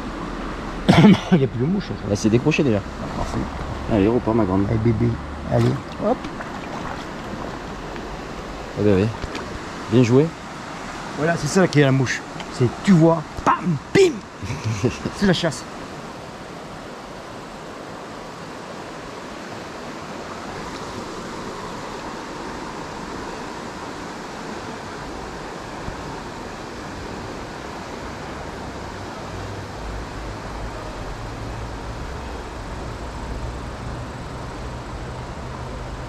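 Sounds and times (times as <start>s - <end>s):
river flowing over rocks: 0.0s - 36.0s.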